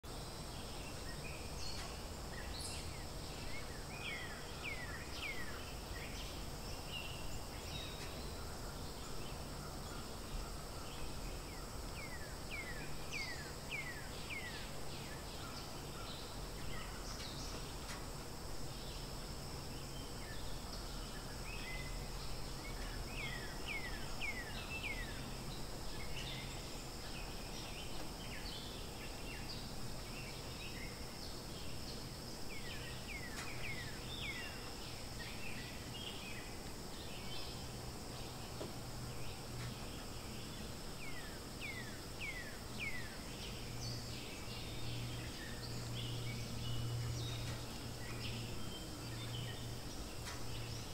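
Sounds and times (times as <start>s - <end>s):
high insect drone: 0.1s - 50.9s.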